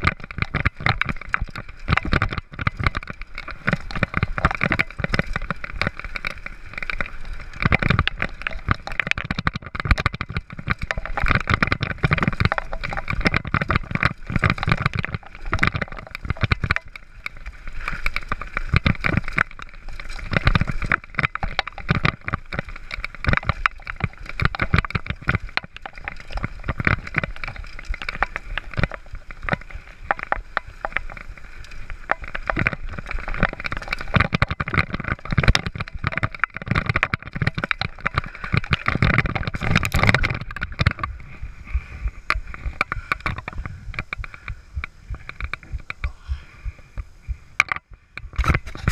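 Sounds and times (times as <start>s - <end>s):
bike knocking over roots and bumps: 0.0s - 48.9s
bike rattling: 0.0s - 48.9s.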